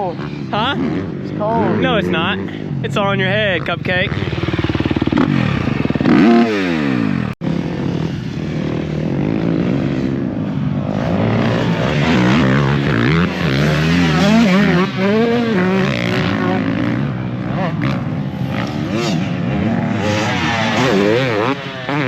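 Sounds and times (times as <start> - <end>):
dirt bike engines revving: 0.0 - 22.0
dirt bike passing close: 0.0 - 22.0.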